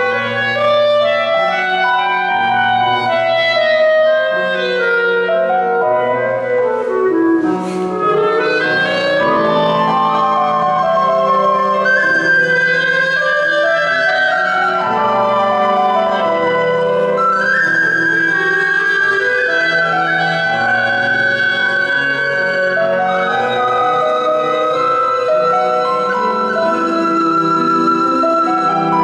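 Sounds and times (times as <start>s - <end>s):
cane flute high held line: 0.0s - 29.0s
clarinet melody: 0.0s - 29.0s
piano accompaniment: 0.0s - 29.0s.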